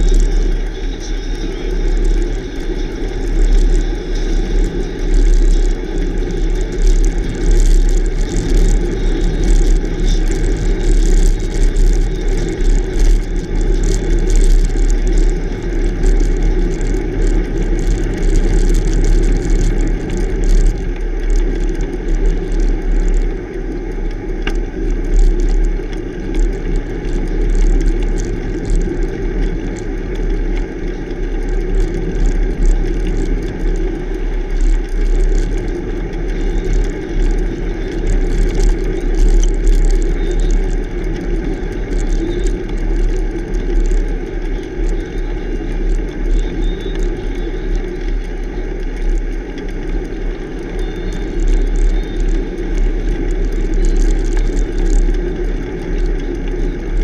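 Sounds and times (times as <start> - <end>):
bicycle tyres on rough asphalt: 0.0 - 57.0
wind: 0.0 - 57.0.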